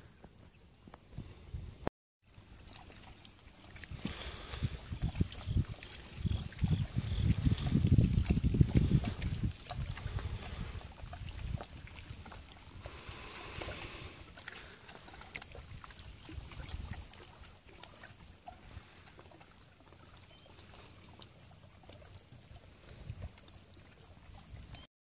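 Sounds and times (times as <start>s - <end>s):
water lapping around a boat: 2.2s - 24.9s.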